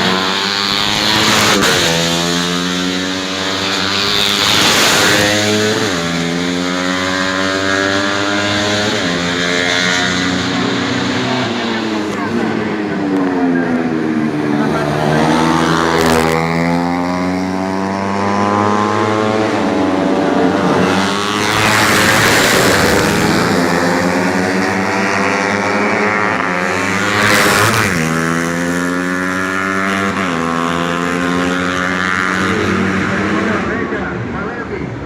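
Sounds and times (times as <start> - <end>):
racing motorcycles at full throttle: 0.0 - 35.0.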